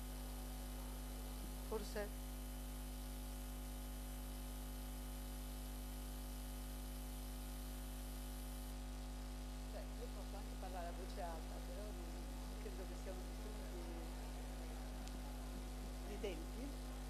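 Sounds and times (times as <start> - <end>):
constant hiss: 0.0 - 17.0
electrical mains hum: 0.0 - 17.0.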